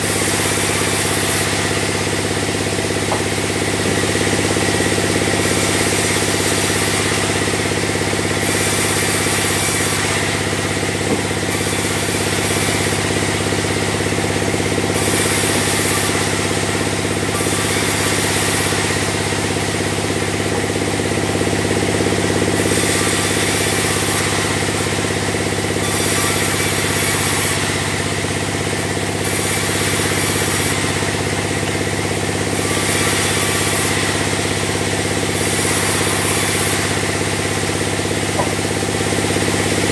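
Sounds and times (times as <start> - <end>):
sawmill low hum: 0.0 - 39.9.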